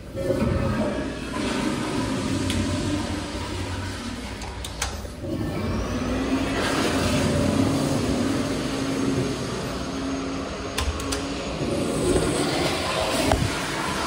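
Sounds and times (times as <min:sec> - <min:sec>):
toilet flushing water rush: 0:00.0 - 0:14.0
valve hum: 0:00.0 - 0:14.0.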